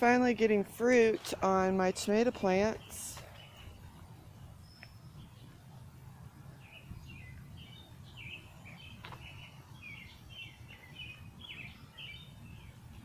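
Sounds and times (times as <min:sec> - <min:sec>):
songbird chirping: 0:00.1 - 0:13.0.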